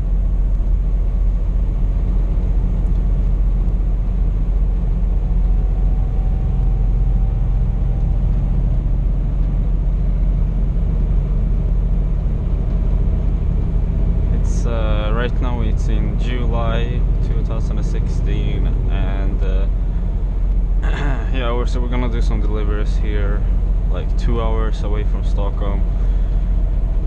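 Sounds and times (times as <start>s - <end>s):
road noise: 0.0s - 27.0s
truck diesel engine rumble: 0.0s - 27.0s.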